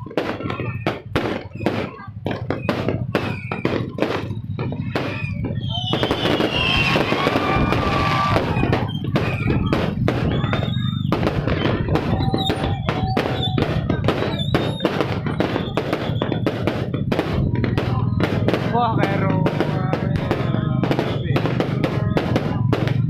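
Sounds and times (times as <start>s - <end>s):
fireworks bangs and crackles: 0.0s - 23.0s
fireworks whistling: 0.0s - 23.0s.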